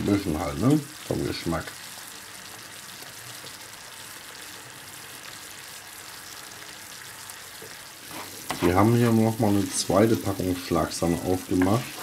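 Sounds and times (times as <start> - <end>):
sauce bubbling in frying pan: 0.0 - 12.0.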